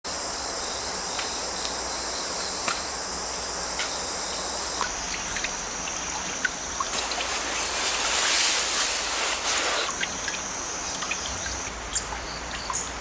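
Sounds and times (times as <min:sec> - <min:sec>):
crickets trilling: 0:00.1 - 0:13.0.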